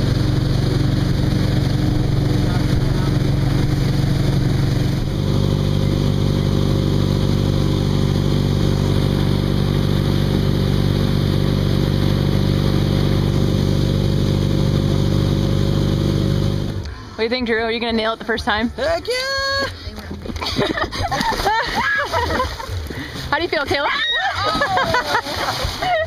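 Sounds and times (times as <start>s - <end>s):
water rushing from wake: 0.0s - 16.8s, 21.2s - 26.0s
boat engine humming: 0.0s - 26.0s.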